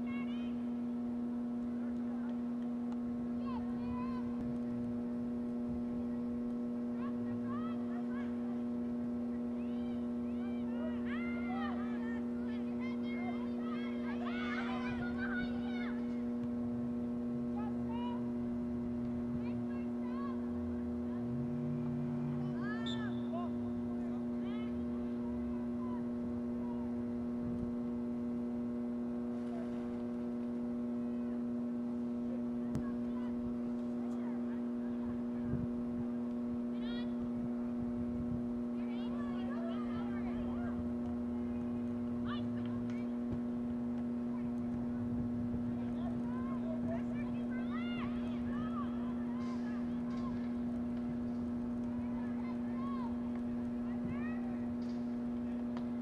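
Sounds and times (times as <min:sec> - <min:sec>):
distant voices calling out: 0:00.0 - 0:56.0
electrical hum: 0:00.0 - 0:56.0.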